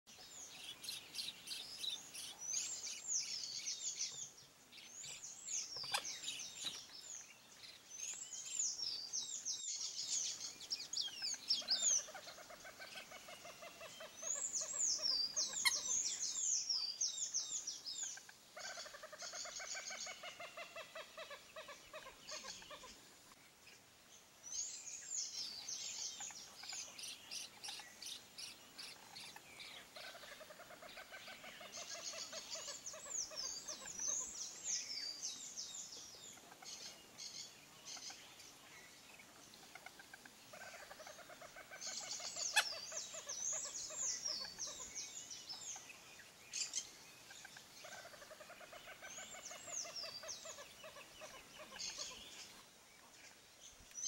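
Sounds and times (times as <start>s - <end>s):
birds chirping: 0.1s - 54.0s.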